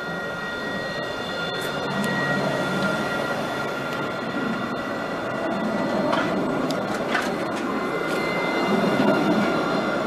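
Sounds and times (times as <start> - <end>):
tram electric whine: 0.0 - 10.0
tram wheels rumbling on rails: 0.0 - 10.0.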